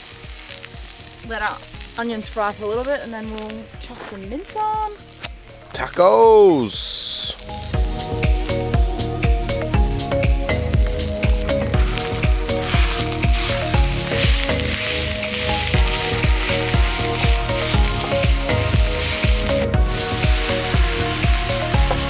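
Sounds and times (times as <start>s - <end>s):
background music with steady beat: 0.0s - 22.0s
meat sizzling on hotplate: 0.0s - 22.0s.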